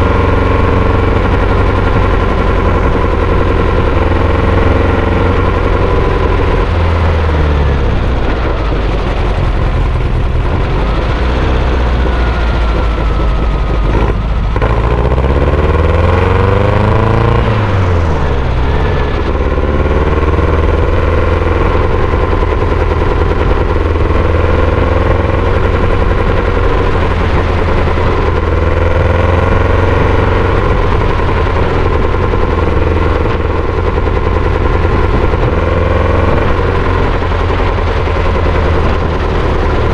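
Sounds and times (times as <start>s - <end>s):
sand buggy engine revving: 0.0s - 39.9s.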